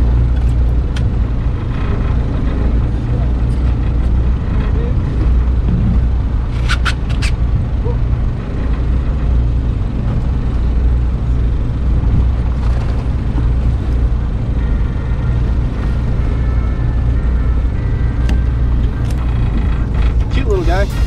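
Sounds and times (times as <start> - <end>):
boat engine droning: 0.0 - 21.0
wind: 0.0 - 21.0.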